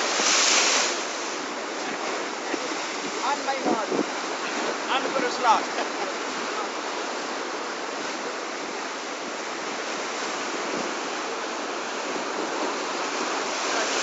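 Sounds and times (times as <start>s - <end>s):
ocean surf on rocky shore: 0.0s - 14.0s.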